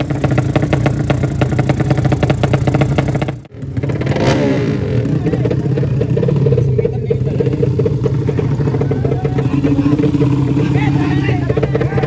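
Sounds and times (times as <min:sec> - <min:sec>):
racing motorcycle engine revving: 0:00.0 - 0:12.0.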